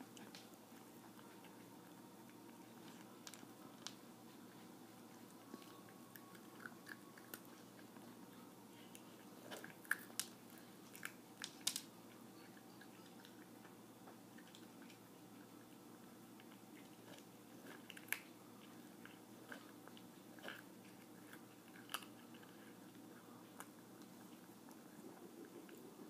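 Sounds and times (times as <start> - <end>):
cat crunching dry kibble: 0.0 - 8.2, 8.8 - 26.0.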